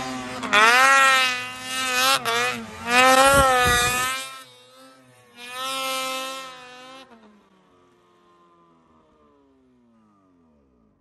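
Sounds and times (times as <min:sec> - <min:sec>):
snowmobile engine buzzing: 0:00.0 - 0:11.0.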